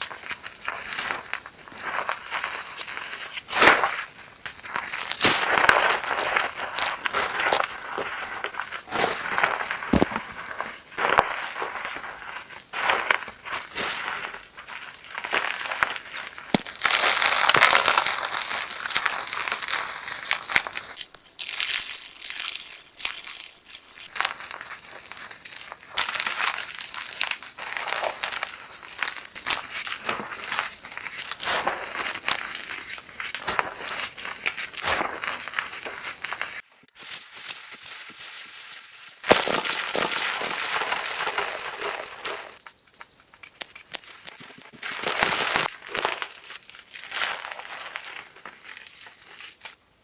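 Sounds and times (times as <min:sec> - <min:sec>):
chalk block crunching: 0:00.0 - 0:49.8.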